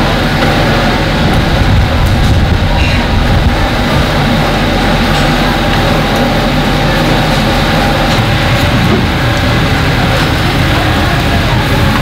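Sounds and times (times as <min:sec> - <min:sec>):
exhaust hood fan rumbling: 0:00.0 - 0:12.0.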